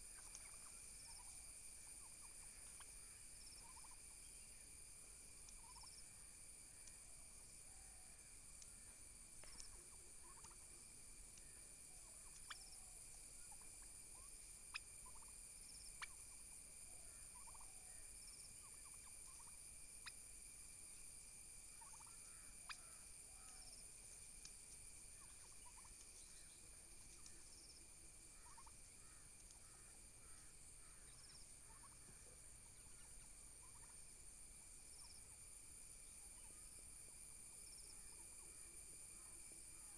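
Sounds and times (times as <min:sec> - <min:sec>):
turkeys clucking and gobbling: 0:00.0 - 0:04.6, 0:05.4 - 0:20.4, 0:21.6 - 0:35.2.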